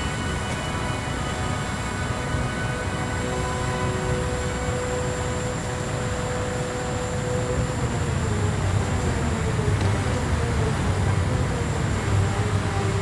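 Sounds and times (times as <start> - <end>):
jet turbine engine running: 0.0 - 13.0.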